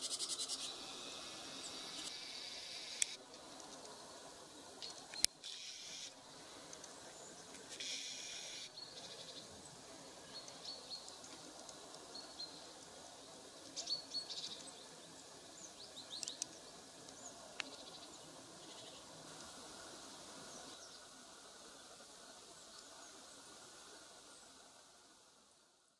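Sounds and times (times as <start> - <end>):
songbirds chirping: 0.0 - 25.4
faint background noise: 0.0 - 25.9.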